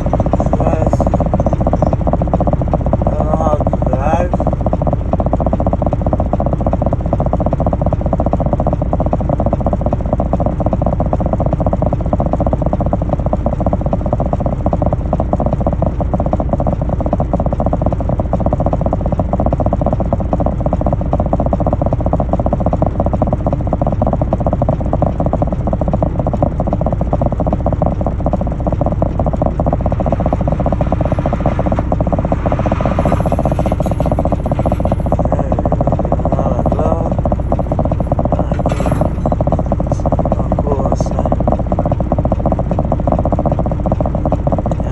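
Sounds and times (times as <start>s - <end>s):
truck engine rattling: 0.0s - 44.9s.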